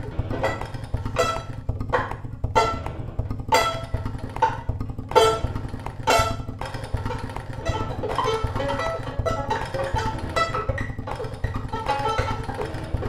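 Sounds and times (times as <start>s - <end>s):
low steady drone: 0.0s - 13.0s
violin plucked pizzicato: 0.0s - 13.0s.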